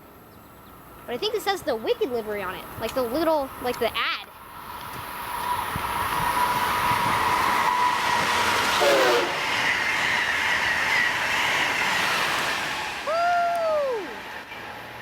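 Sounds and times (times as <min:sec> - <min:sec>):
train passing at speed: 0:00.0 - 0:15.0
clickety-clack of rails: 0:00.9 - 0:15.0.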